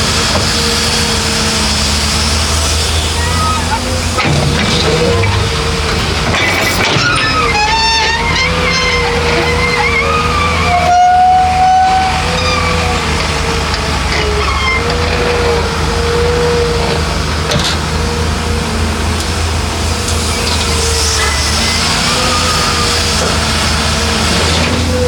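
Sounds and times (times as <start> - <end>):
diesel machinery engine drone: 0.0 - 25.0.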